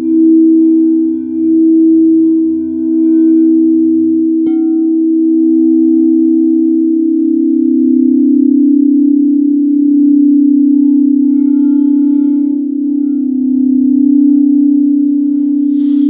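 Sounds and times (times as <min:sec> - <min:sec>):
singing bowl ringing: 0:00.0 - 0:16.0.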